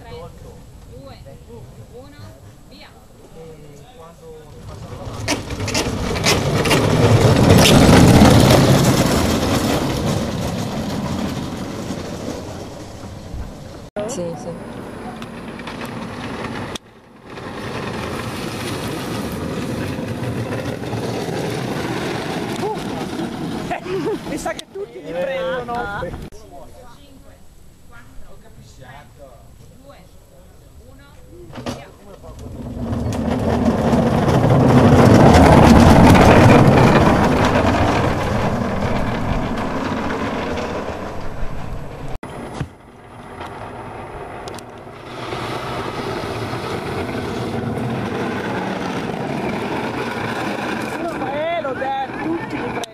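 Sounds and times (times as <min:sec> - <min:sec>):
wheels rolling on tarmac: 0:00.0 - 0:52.9.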